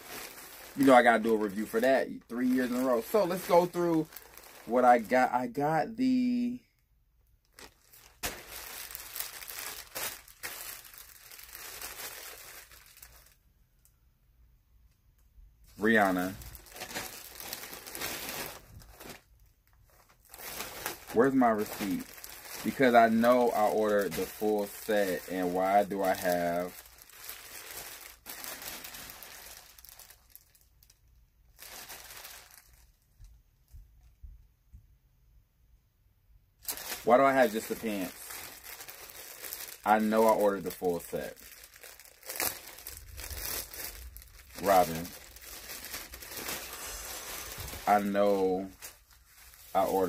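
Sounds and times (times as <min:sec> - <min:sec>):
plastic bag crinkling: 0:00.0 - 0:06.6, 0:07.4 - 0:13.4, 0:15.8 - 0:33.0, 0:36.6 - 0:50.0.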